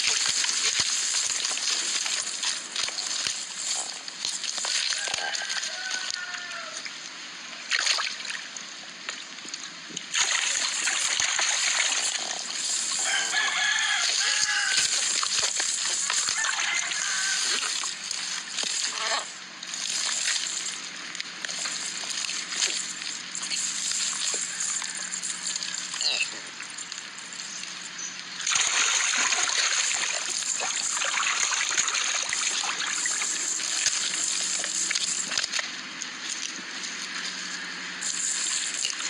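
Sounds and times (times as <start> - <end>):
water splashing and sloshing: 0.0 - 37.5.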